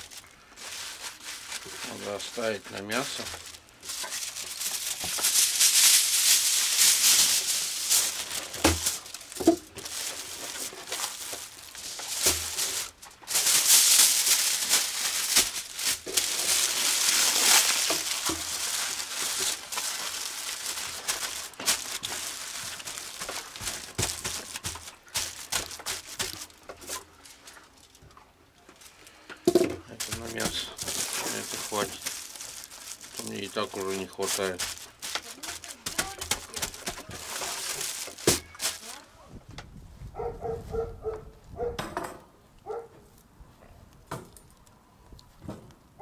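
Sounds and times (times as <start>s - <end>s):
aluminium foil crinkling: 0.0s - 39.2s.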